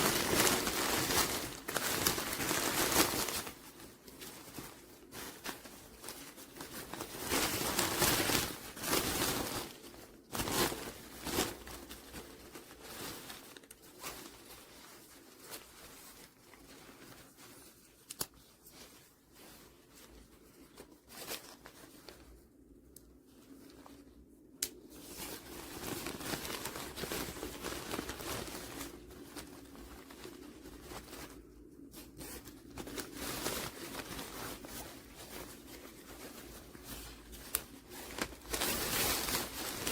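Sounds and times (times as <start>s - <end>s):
rustling and crinkling: 0.0s - 39.9s.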